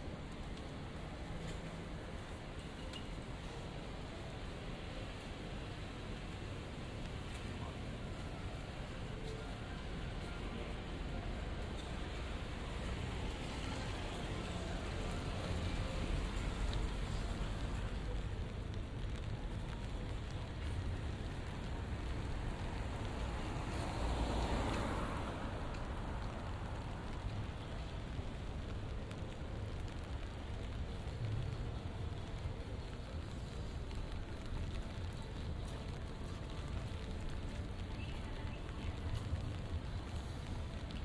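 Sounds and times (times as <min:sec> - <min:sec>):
light rain on wet street: 0:00.0 - 0:41.0
low urban rumble: 0:00.0 - 0:41.0.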